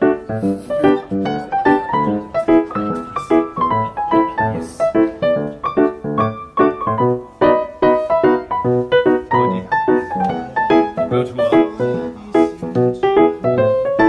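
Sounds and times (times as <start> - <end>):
piano playing quick notes: 0.0 - 14.0.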